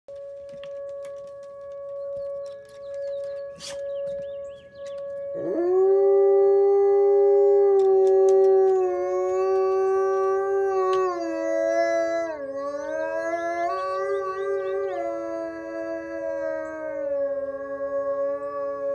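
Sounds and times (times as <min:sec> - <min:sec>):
two-tone warning siren: 0:00.1 - 0:18.9
dog howling: 0:00.7 - 0:18.9.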